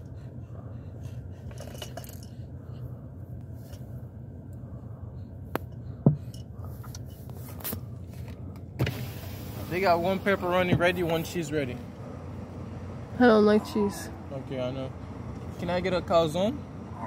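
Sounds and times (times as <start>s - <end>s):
low hum inside car: 0.0s - 17.0s.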